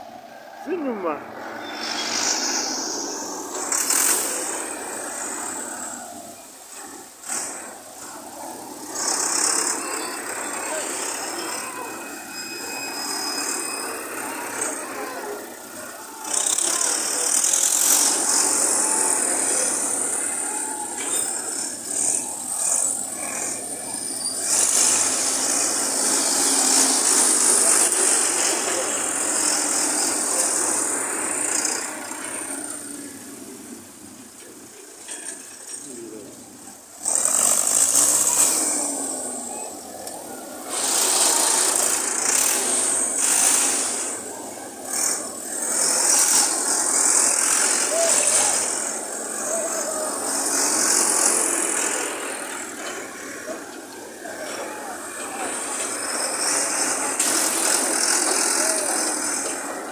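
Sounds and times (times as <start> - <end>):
tractor engines driving past: 0.0 - 59.9
traffic noise: 0.0 - 59.9.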